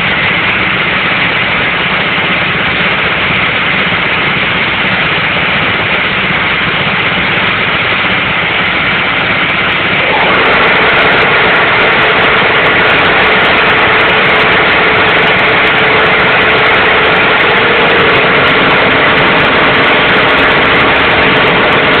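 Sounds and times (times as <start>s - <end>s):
electric machine running: 0.0s - 22.0s
steady hum: 0.0s - 22.0s.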